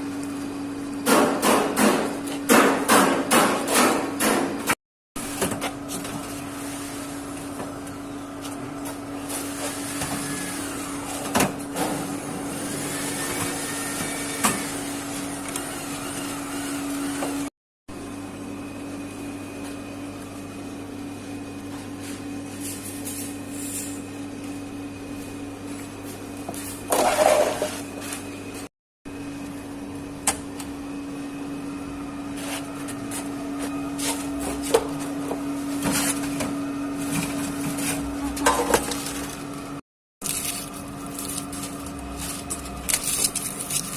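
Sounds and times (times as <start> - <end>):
machine electric hum: 3.4 - 43.9.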